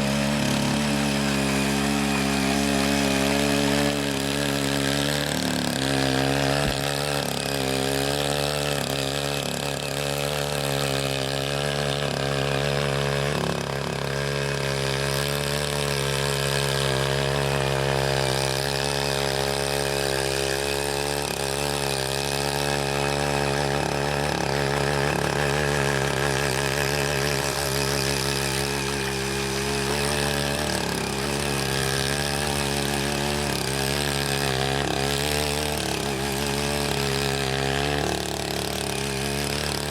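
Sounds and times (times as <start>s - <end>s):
hand tiller engine running: 0.0s - 39.9s
tines churning wet soil: 0.0s - 39.9s.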